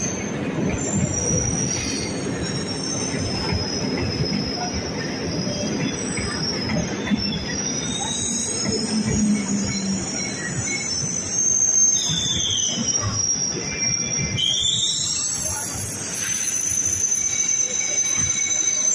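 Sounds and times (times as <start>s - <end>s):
train wheels rumbling on track: 0.0s - 18.9s
wheel squeal: 0.0s - 18.9s.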